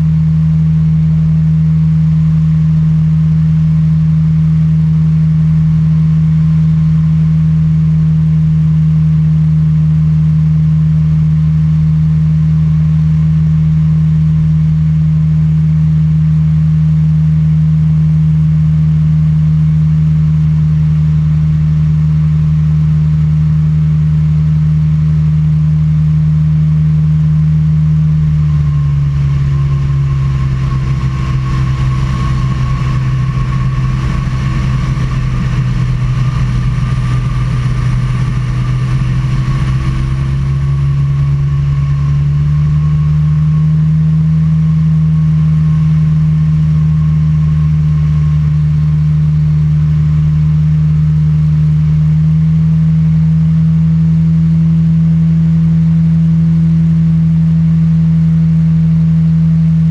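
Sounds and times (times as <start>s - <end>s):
microlight engine drone: 0.0s - 59.9s.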